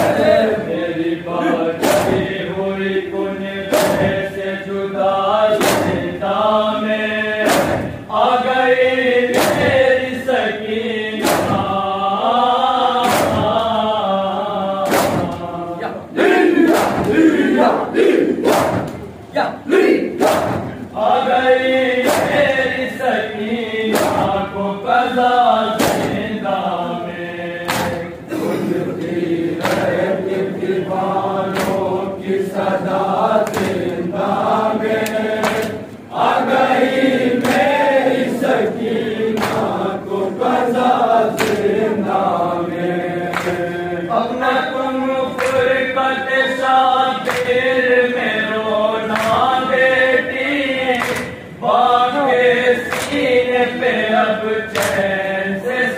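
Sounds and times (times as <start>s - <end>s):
men chanting together: 0.0s - 55.9s.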